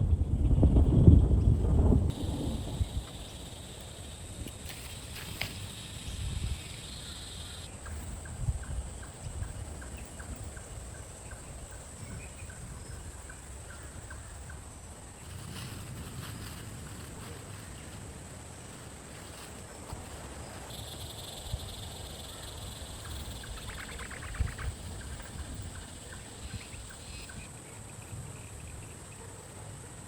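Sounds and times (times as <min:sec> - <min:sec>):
low rumble of wind: 0:00.0 - 0:30.0
faint evenly spaced ticks: 0:02.1 - 0:27.6.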